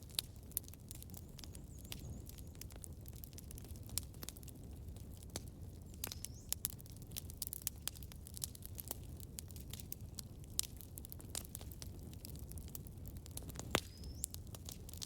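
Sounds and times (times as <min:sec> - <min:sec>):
burning wood popping and snapping: 0:00.0 - 0:15.0
low rumble of flame: 0:00.0 - 0:15.0.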